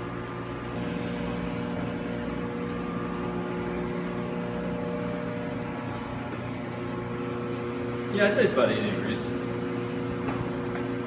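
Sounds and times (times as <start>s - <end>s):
hvac equipment humming: 0.0s - 11.0s.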